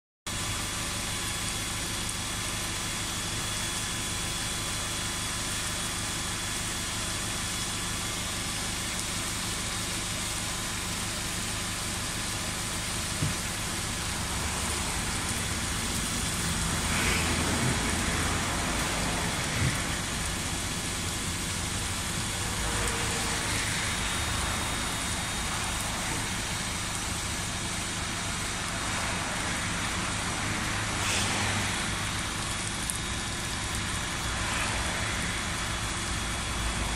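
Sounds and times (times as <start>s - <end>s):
engine hum: 0.3s - 36.9s
high-pressure water jet hissing: 0.3s - 36.9s.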